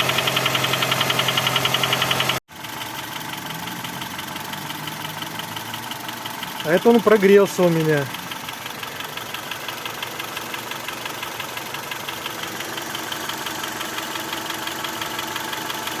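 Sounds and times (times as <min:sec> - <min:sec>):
car engine idling: 0:00.0 - 0:16.0
fast regular engine knock: 0:00.0 - 0:16.0.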